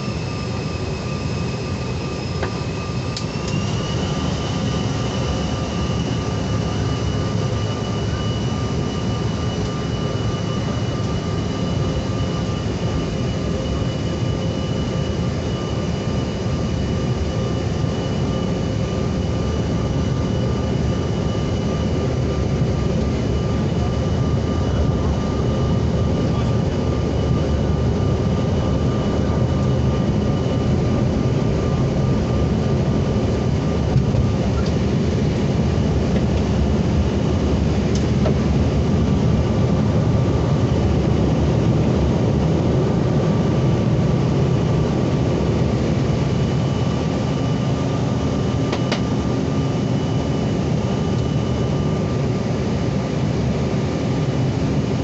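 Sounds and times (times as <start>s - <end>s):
faint high engine whine: 0.0s - 55.0s
jet cabin rumble: 0.0s - 55.0s.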